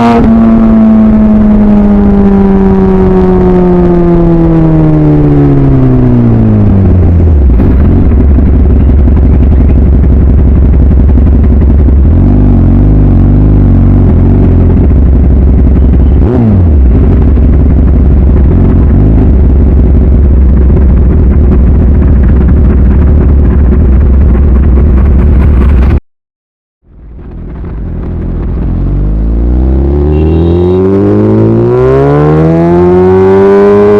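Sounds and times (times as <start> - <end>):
motorcycle engine revving: 0.0 - 26.0, 26.9 - 33.9.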